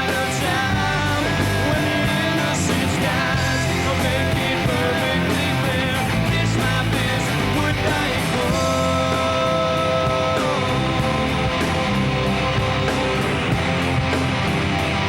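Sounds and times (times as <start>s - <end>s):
rock band with electric guitars: 0.0s - 15.0s.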